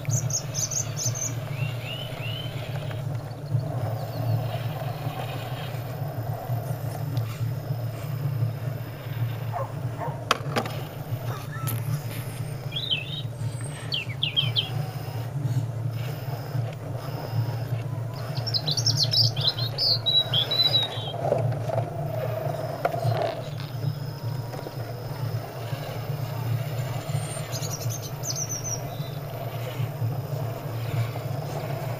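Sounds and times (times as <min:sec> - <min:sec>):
birds chirping: 0:00.0 - 0:31.9
electric motors humming and whining: 0:00.0 - 0:31.9.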